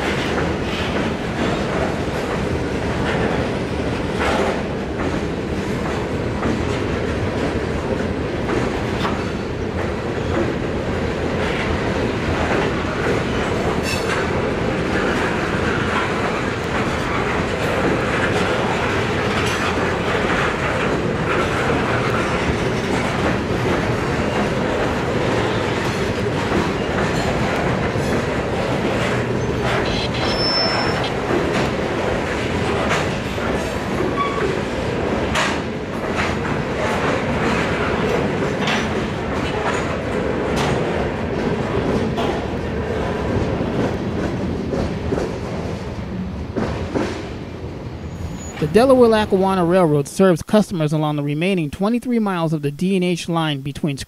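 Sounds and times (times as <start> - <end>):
wheels clicking over rail joints: 0.0 - 48.8
steel wheels rolling on rail: 0.0 - 49.4.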